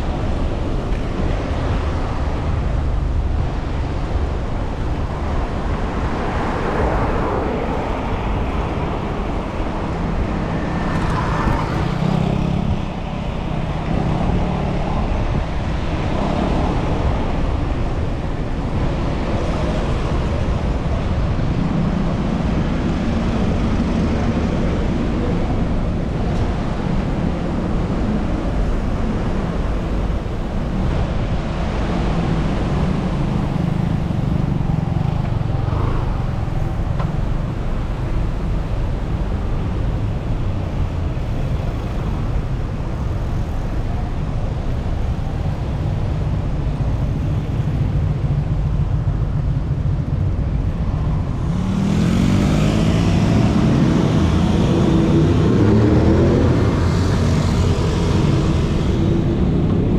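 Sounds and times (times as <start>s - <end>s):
road traffic rumble: 0.0s - 59.9s
vehicle engines passing: 0.0s - 59.9s.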